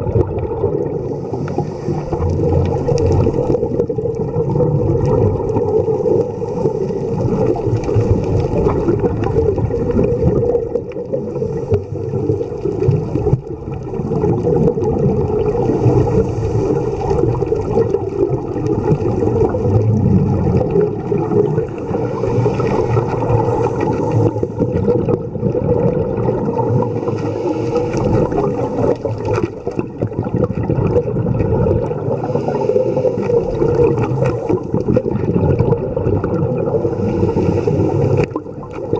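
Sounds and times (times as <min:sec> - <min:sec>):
muffled underwater rumble: 0:00.0 - 0:38.9
regulator bubbles gurgling: 0:00.0 - 0:38.9.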